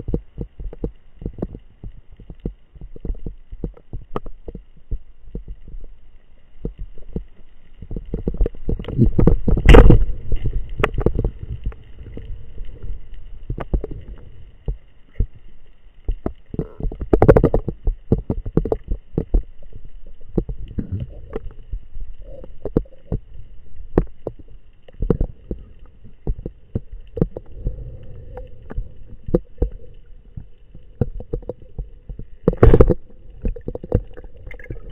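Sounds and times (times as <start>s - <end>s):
underwater clicks and knocks: 0.0s - 5.8s, 6.6s - 15.4s, 16.0s - 34.9s
underwater rumble: 0.0s - 34.9s.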